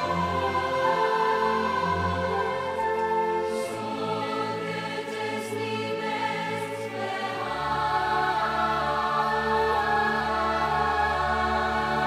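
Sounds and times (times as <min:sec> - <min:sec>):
choir singing long notes: 0:00.0 - 0:12.0
orchestral music: 0:00.0 - 0:12.0.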